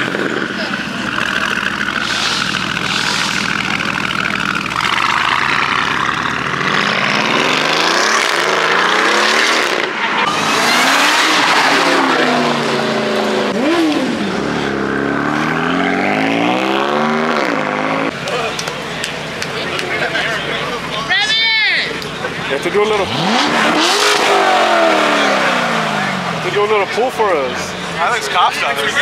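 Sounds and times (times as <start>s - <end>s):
car engine revving: 0.0s - 21.2s, 21.8s - 29.0s
din of other engines: 0.0s - 29.0s.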